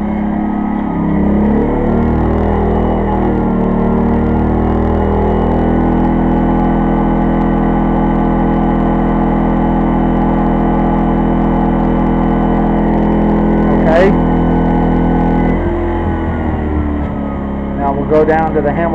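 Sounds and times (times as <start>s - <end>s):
generator engine running: 0.0s - 18.9s.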